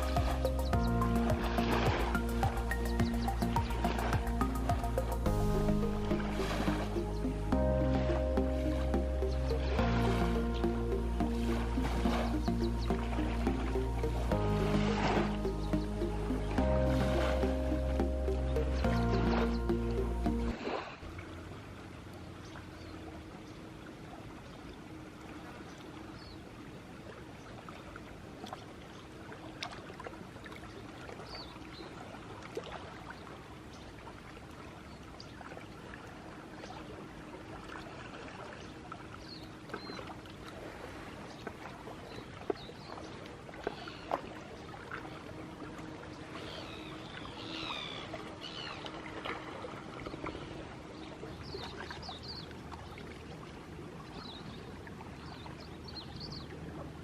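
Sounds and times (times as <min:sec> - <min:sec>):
water trickling and lapping: 0:00.0 - 0:57.0.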